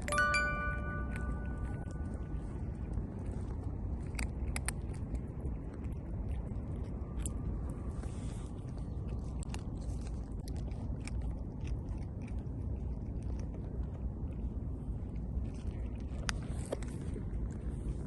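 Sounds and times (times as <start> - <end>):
cat chewing and crunching food: 0.0 - 18.0
steady low rumble: 0.0 - 18.0.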